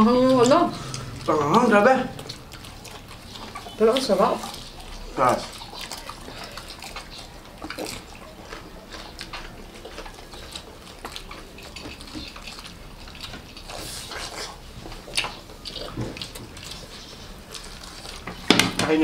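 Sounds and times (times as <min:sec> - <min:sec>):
chewing and mouth smacks: 0:00.0 - 0:19.0
crunching fried chicken: 0:00.0 - 0:19.0.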